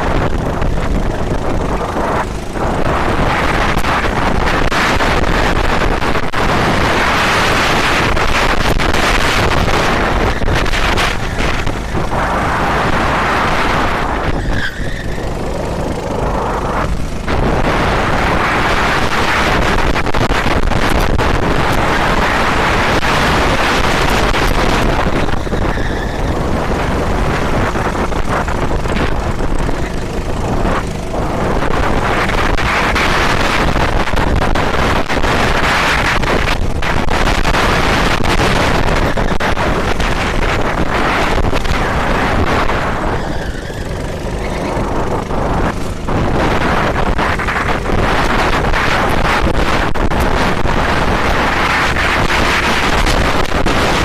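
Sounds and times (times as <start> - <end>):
loud rushing noise: 0.0 - 54.0.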